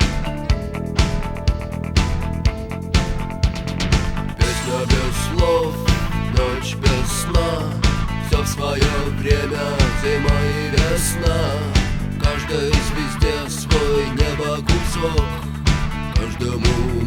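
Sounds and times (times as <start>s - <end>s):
drum beat: 0.0s - 17.0s
electric guitar: 0.0s - 17.0s.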